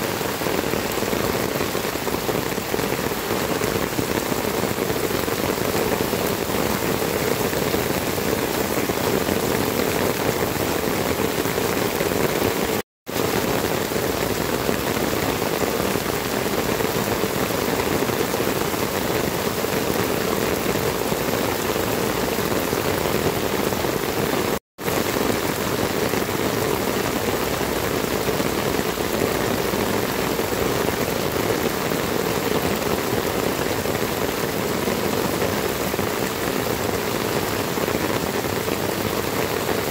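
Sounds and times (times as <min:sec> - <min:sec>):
heavy rain on roofs: 0:00.0 - 0:39.9.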